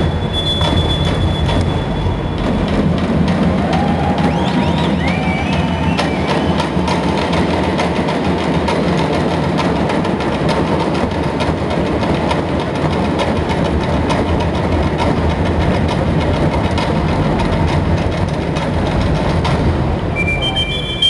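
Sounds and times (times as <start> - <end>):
hand drums beating: 0.0 - 20.1.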